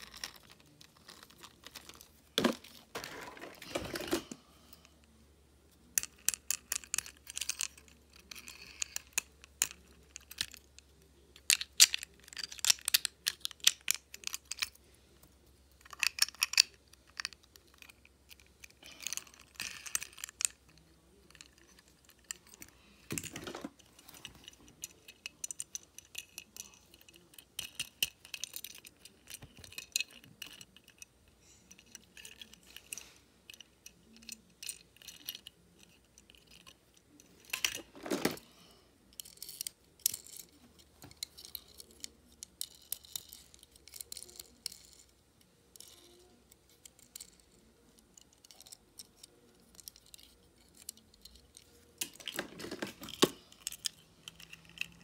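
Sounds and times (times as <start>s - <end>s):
toy cars clicking and clattering: 0.0s - 55.0s.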